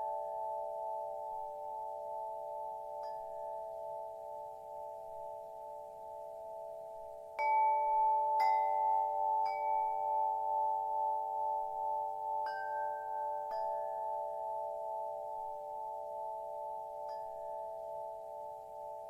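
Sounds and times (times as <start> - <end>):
wind chime ringing: 0.0 - 19.0.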